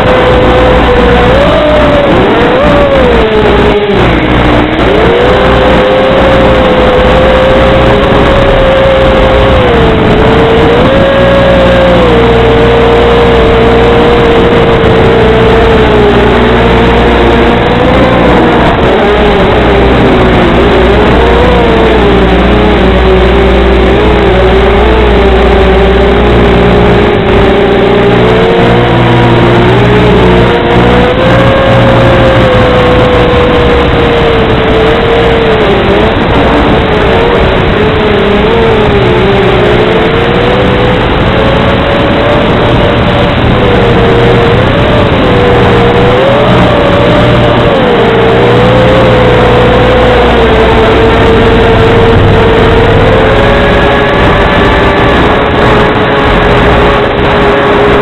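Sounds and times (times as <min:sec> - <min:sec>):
drone motors whining: 0:00.0 - 0:58.0
steady low hum: 0:00.0 - 0:58.0.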